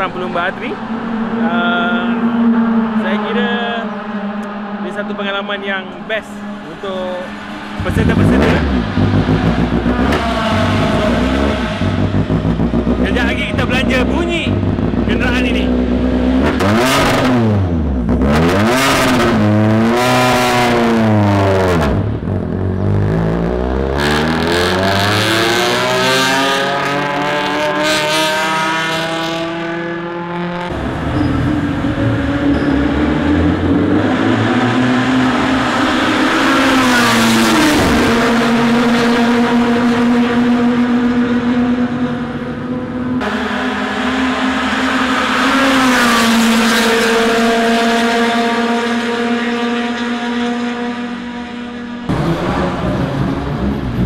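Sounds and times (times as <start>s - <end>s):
race car driving at high revs: 0.0s - 54.0s
race car engine revving: 0.0s - 54.0s.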